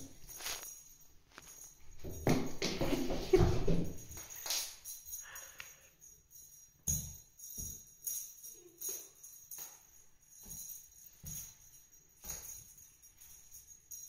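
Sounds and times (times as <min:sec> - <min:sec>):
small bell jingling: 0:00.0 - 0:14.0.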